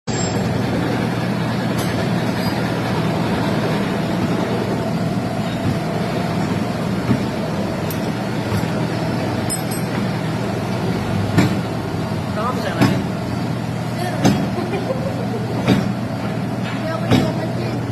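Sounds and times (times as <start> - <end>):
machine humming: 0.1 - 17.9.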